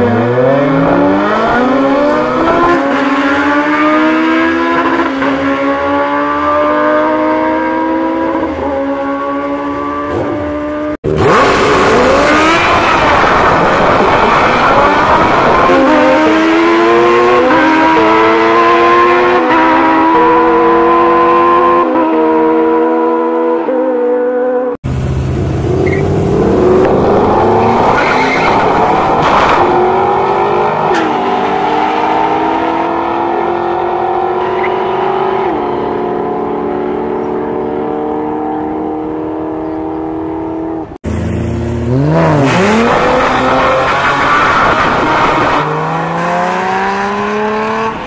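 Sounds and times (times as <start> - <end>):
drag racing car engines revving: 0.0 - 23.7, 24.8 - 48.0.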